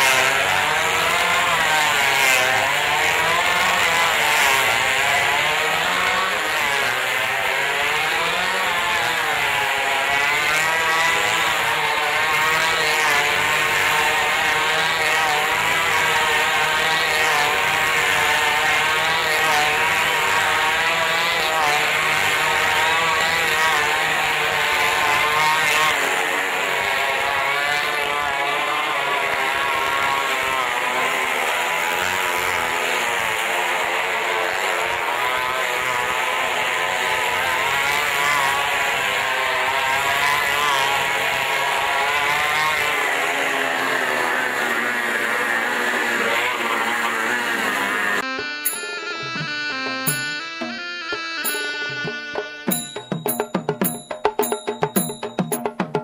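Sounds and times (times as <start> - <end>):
small motorcycle engines running hard: 0.0 - 56.0.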